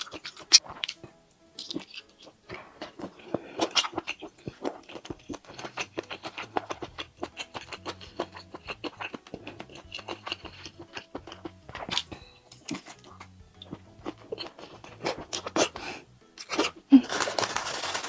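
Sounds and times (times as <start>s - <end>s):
lip smacks and sucking: 0.0s - 15.8s
wet chewing mouth sounds: 0.0s - 16.8s.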